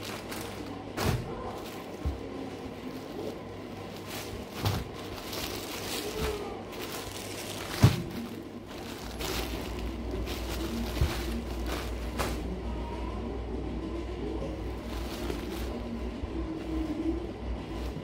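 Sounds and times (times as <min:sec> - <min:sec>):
fabric rustling: 0:00.0 - 0:12.6, 0:14.6 - 0:18.0
steady low hum: 0:00.0 - 0:18.0.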